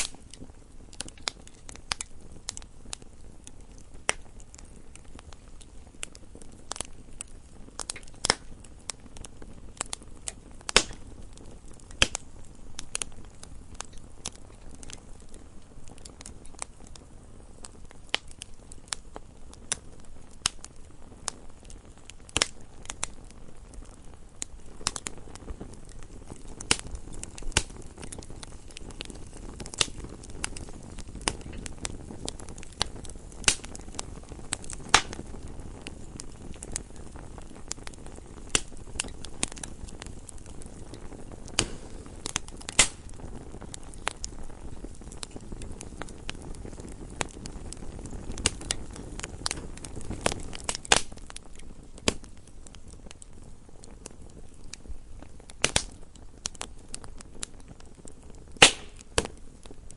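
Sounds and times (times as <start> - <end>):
logs crackling and popping: 0.0 - 59.9
low rush of flame: 0.0 - 59.9.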